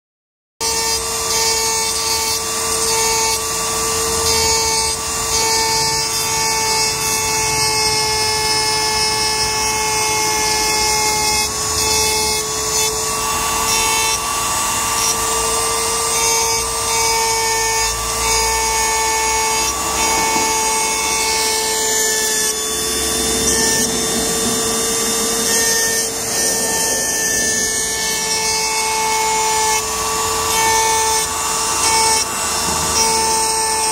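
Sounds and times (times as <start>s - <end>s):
bit scratching stone: 0.6s - 33.9s
rotary tool whining: 0.6s - 33.9s.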